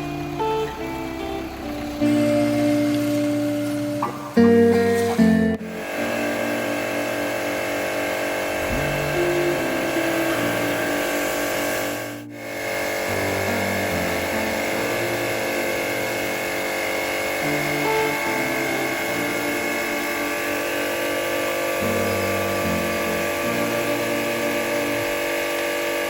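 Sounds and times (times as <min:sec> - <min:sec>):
pressure washer humming: 0:00.0 - 0:26.0.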